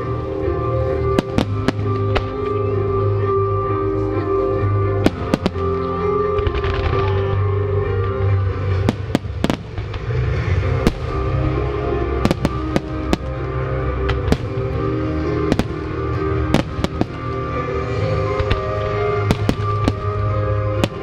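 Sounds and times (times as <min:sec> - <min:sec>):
music with sustained tones: 0:00.0 - 0:21.0.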